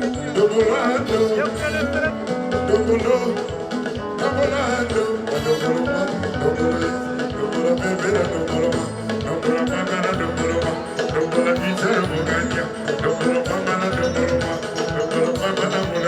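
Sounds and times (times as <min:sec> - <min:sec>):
live rumba band music: 0:00.0 - 0:16.0.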